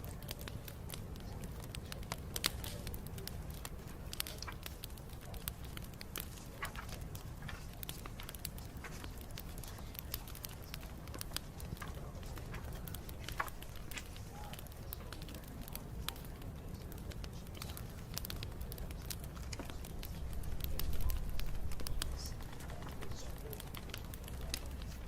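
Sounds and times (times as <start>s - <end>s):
bonfire crackling and popping: 0.0s - 25.0s
low fire rumble: 0.0s - 25.0s.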